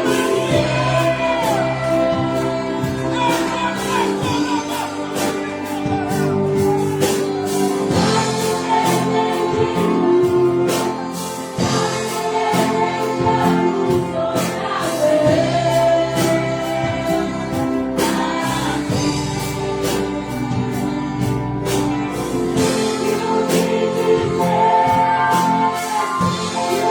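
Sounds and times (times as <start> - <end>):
orchestra and choir worship song: 0.0 - 26.9.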